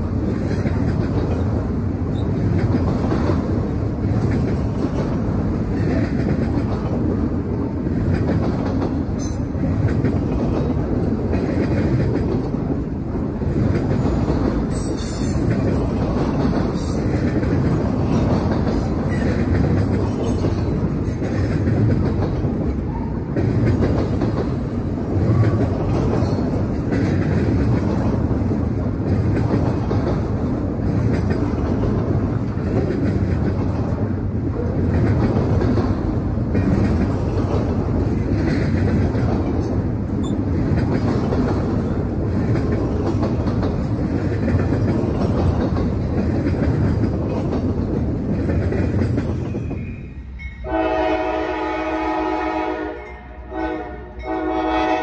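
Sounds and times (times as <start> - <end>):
wheels clattering on rails: 0.0 - 50.7
freight train rumbling past: 0.0 - 55.0.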